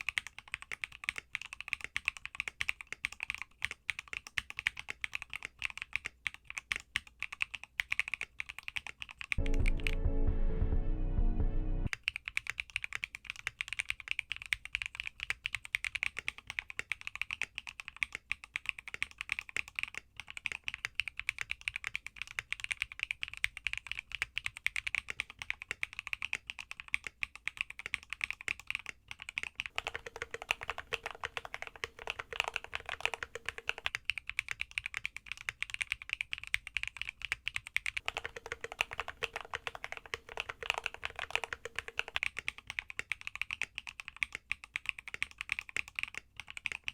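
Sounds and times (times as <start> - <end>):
fast mechanical keyboard typing: 0.0 - 10.0, 11.9 - 46.9.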